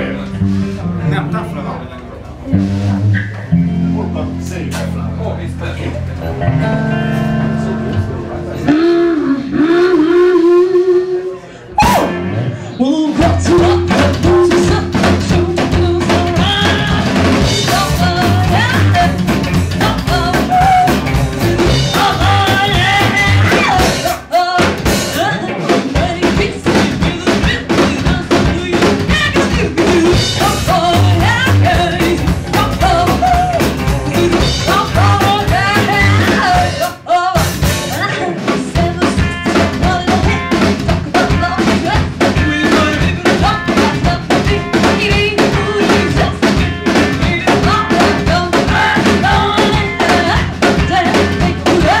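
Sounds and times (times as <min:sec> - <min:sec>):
drum kit with snare and bass drum: 0:00.0 - 0:01.2, 0:02.3 - 0:05.2, 0:11.8 - 0:12.5, 0:13.2 - 0:52.0
electric guitar: 0:00.0 - 0:52.0
upright bass: 0:00.0 - 0:52.0.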